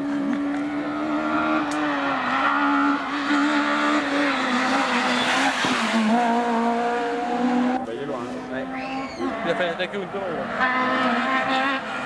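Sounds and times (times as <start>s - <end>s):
rally car engine revving: 0.0s - 12.0s
tyre and exhaust rush: 0.0s - 12.0s.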